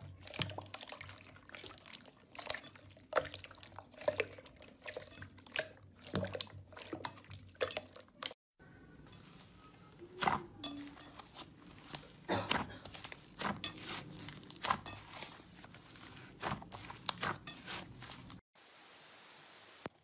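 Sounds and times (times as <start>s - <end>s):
slime squishing: 0.0s - 8.4s, 9.2s - 18.4s.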